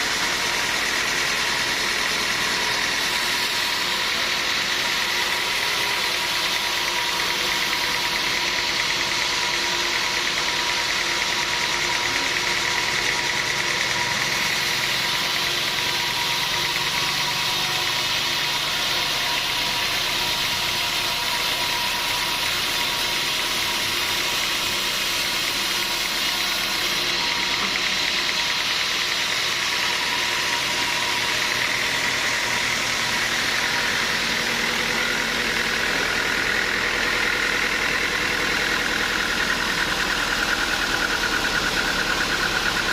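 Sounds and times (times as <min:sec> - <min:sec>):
sawmill machinery whining: 0:00.0 - 0:42.9.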